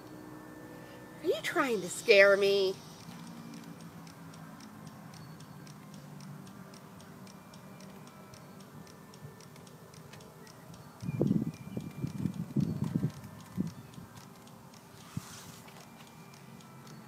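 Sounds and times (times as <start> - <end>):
high-pitched ticking: 0.0 - 17.0.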